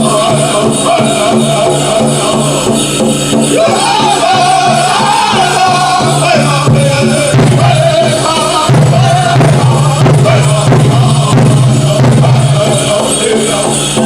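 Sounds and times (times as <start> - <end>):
big drum beat: 0.0 - 14.0
drum group singing: 0.0 - 14.0.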